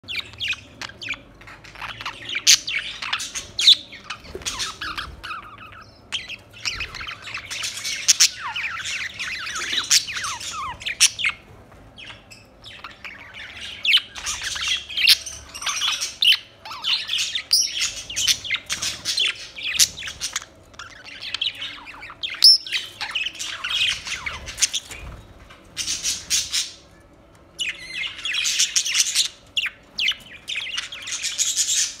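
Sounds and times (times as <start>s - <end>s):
budgerigars chattering: 0.0s - 26.9s, 27.6s - 32.0s.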